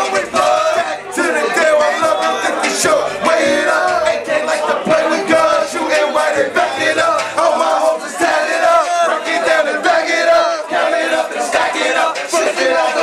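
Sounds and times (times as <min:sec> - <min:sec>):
crowd shouting along: 0:00.0 - 0:13.0
hip-hop beat: 0:00.0 - 0:13.0
men rapping into microphones: 0:00.0 - 0:13.0.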